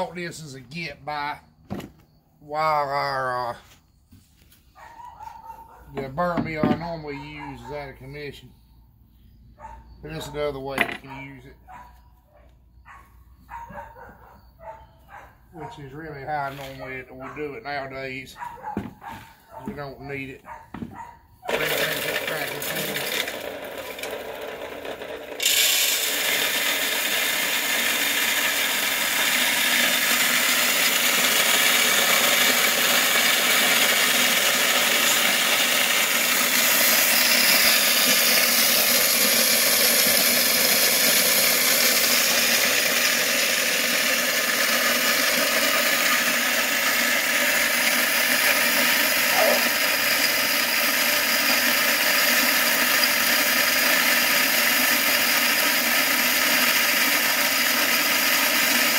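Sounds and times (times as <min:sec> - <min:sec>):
electric mill grinding corn: 0:00.0 - 0:02.0, 0:05.9 - 0:08.4, 0:10.0 - 0:11.8, 0:15.6 - 0:58.9.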